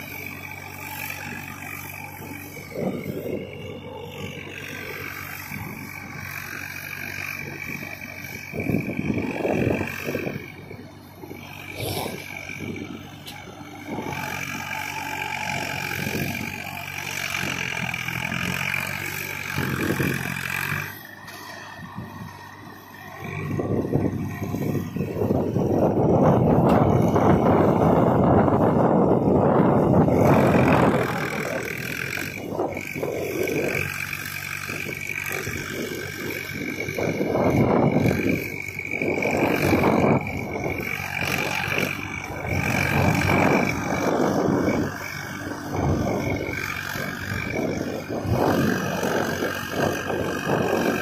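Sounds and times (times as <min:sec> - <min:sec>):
distant tractor diesel engine: 0:00.0 - 0:51.0.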